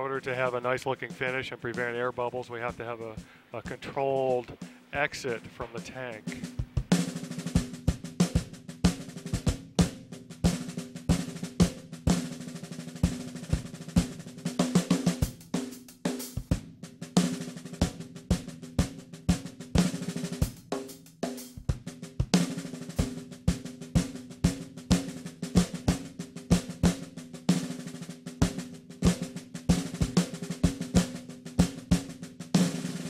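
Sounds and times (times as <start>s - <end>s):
drum kit played with sticks: 0.0s - 33.0s.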